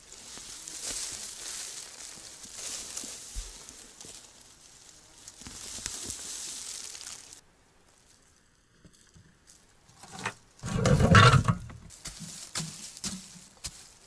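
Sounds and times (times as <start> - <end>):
rustling and scraping of soil: 0.0 - 14.0.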